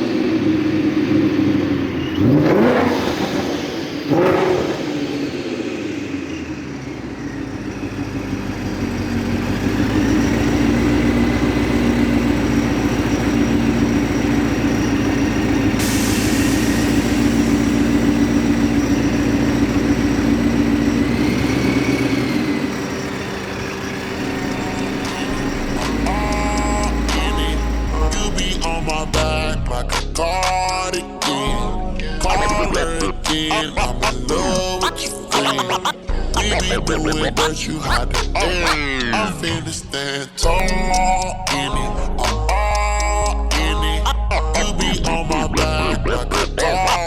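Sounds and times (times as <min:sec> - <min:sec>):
deep exhaust drone: 0:00.0 - 0:35.0, 0:36.1 - 0:47.0
car engine revving: 0:00.0 - 0:35.6, 0:36.2 - 0:47.0.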